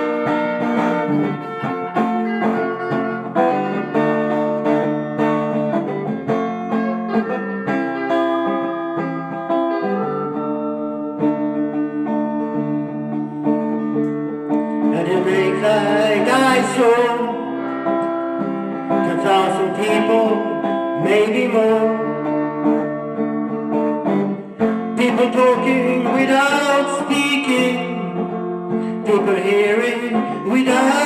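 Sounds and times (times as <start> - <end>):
guitar chords: 0.0 - 31.0
wavering guitar melody: 0.0 - 31.0.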